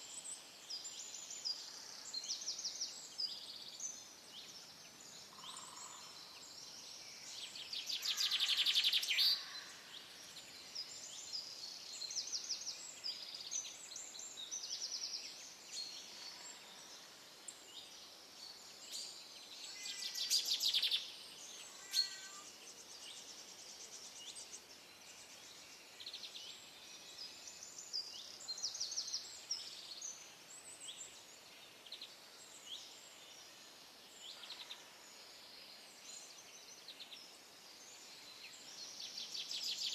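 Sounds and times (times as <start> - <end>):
outdoor ambience hiss: 0.0 - 39.9
songbirds chirping and trilling: 0.0 - 39.9.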